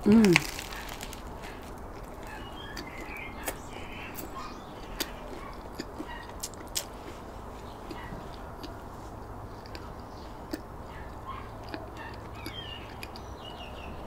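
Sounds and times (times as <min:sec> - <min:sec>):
person chewing: 0:00.0 - 0:13.4.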